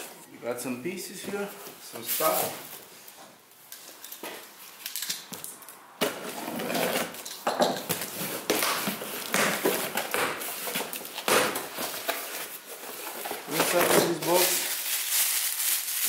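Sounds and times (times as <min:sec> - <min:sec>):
cardboard and plastic rustling: 0:01.1 - 0:16.0.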